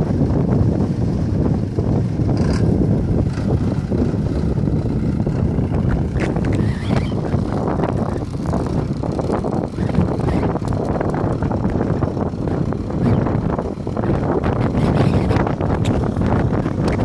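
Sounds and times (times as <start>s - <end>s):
tractor diesel engine running: 0.0s - 17.0s
wind buffeting microphone: 0.0s - 17.0s.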